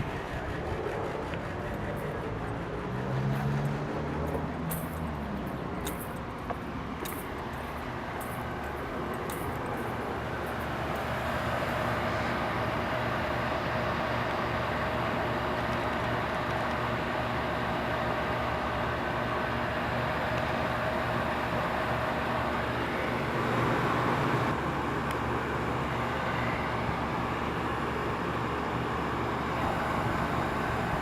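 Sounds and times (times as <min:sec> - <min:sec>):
heat pump hum and fan: 0:00.0 - 0:31.0.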